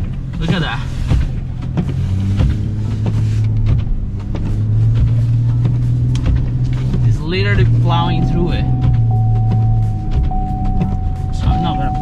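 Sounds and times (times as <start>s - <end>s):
knocks and thumps: 0.0s - 7.1s, 8.2s - 12.0s.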